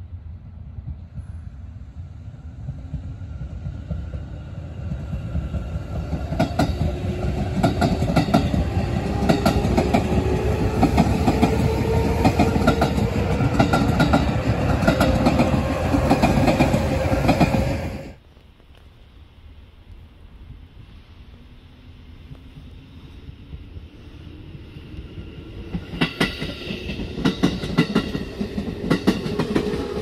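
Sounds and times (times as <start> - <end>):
electric train rumbling past: 0.0 - 18.2, 19.2 - 30.0
quiet outdoor ambience: 0.0 - 30.0.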